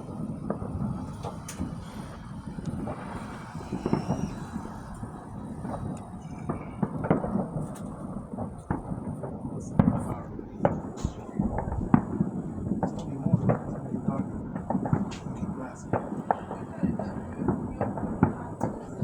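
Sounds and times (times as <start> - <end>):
fireworks and firecrackers popping: 0.0 - 19.0.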